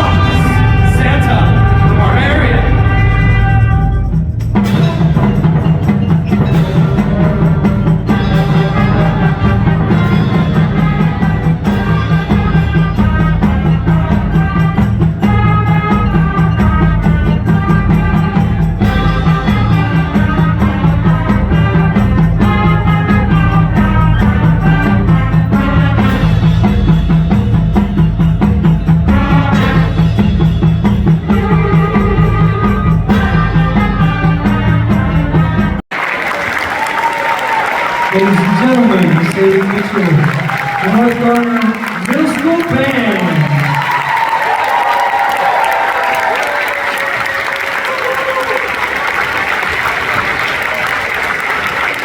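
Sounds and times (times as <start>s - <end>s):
concert band playing: 0.0s - 52.0s
drums and percussion: 0.0s - 52.0s.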